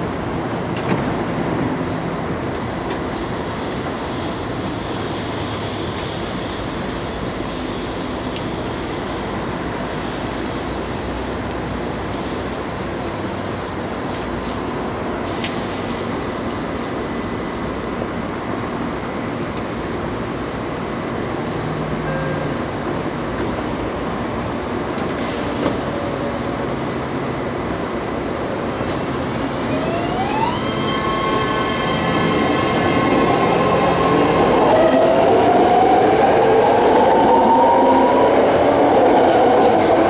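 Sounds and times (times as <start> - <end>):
freeway traffic: 0.0 - 40.0
train running noise: 0.0 - 40.0.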